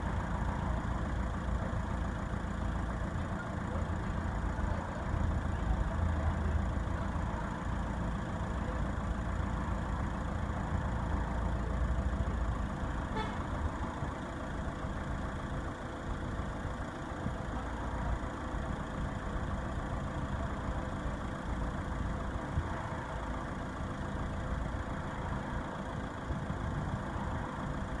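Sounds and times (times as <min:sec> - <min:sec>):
vehicle engine running with whine: 0:00.0 - 0:28.0.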